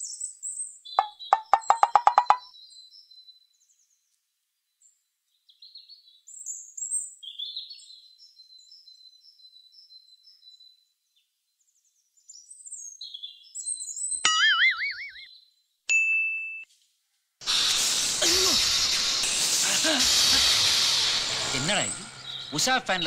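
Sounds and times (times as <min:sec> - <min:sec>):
small birds chirping: 0:00.0 - 0:15.5, 0:17.4 - 0:23.0.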